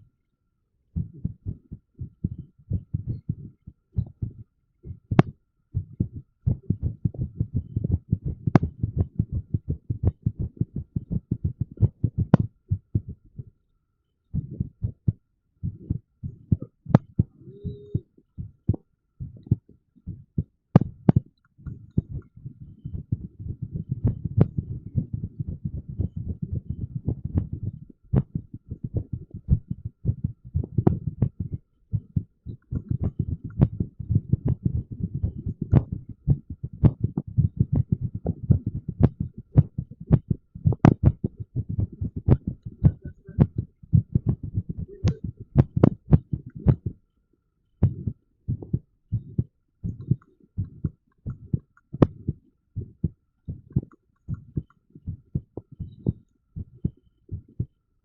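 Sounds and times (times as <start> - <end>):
irregular heartbeat thumps: 1.0 - 13.5, 14.3 - 47.0, 47.8 - 57.8.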